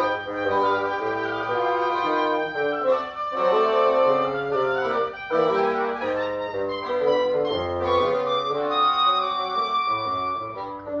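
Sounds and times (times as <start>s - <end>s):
double reed ensemble playing: 0.0s - 10.9s.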